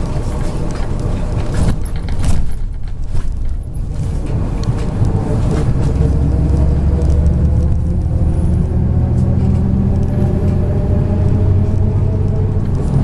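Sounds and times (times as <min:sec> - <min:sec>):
bus engine hum: 0:00.0 - 0:13.0.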